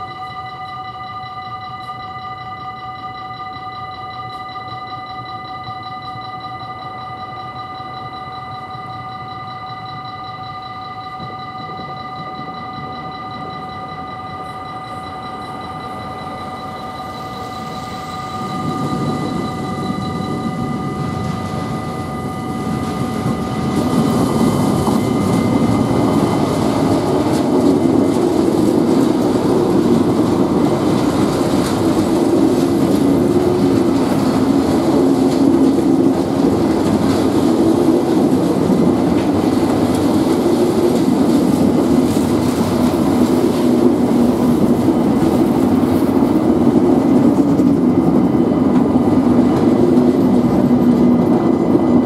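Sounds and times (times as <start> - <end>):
level crossing bell ringing: 0.0 - 50.8
diesel locomotive engine: 0.0 - 52.0
train wheels rumbling on rail: 0.0 - 52.0.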